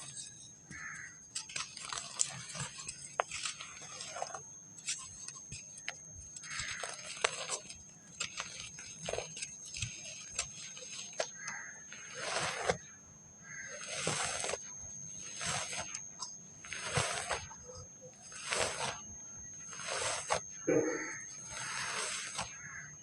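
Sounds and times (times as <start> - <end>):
dry sand crumbling and crunching: 0.0 - 23.0.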